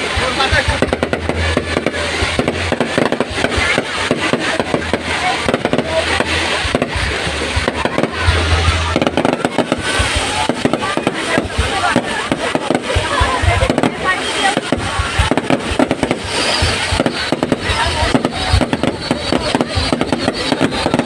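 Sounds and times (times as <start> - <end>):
crowd noise: 0.0 - 21.0
fireworks bangs and crackles: 0.0 - 21.0.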